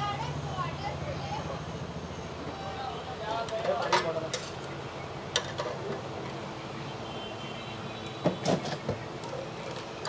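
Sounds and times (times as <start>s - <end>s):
street background hum: 0.0s - 10.0s.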